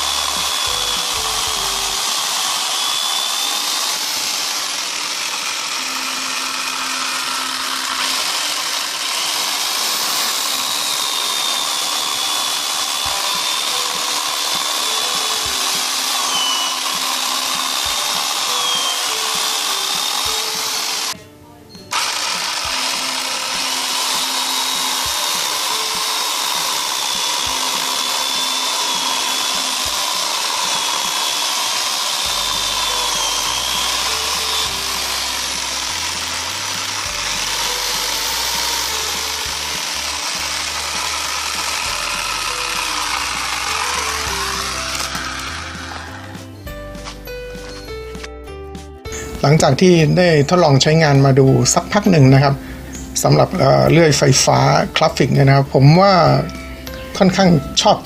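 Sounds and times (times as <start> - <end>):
electric chainsaw cutting log: 0.0 - 21.2, 21.8 - 48.4, 49.0 - 58.0.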